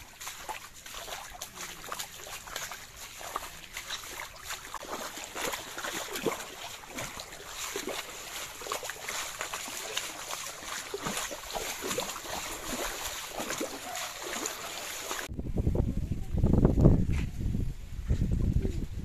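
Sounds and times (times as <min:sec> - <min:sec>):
floodwater rushing and splashing: 0:00.0 - 0:15.3.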